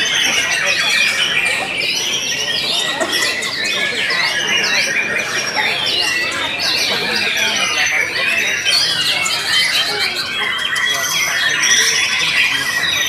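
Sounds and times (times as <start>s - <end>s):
birds singing whistles and chatter: 0.0s - 13.0s.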